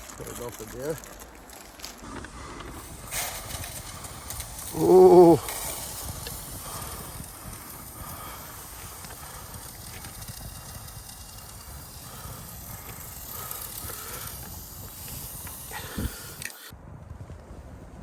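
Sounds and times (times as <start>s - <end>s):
porridge hissing and sizzling: 0.0s - 16.7s.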